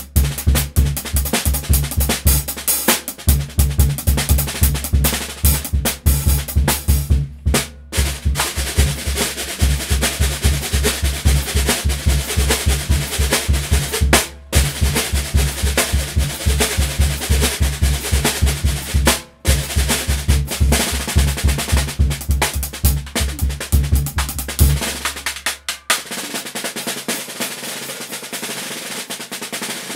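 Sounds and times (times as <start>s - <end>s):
bass drum beats: 0.0s - 2.6s, 3.2s - 25.6s
snare drum fast pattern: 0.0s - 29.9s.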